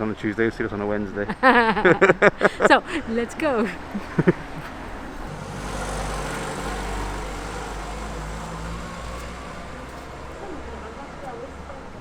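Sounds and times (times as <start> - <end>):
passing motor vehicle rumble: 1.4 - 12.0.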